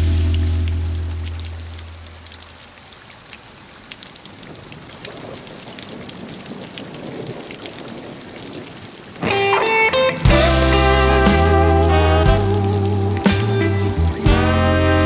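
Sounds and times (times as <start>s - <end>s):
rain with sharp drop ticks: 0.0s - 15.0s.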